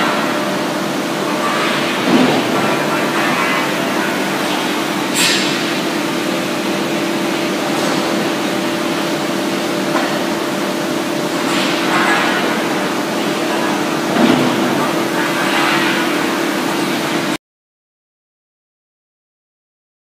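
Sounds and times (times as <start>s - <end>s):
tube mill machine drone: 0.0s - 17.4s.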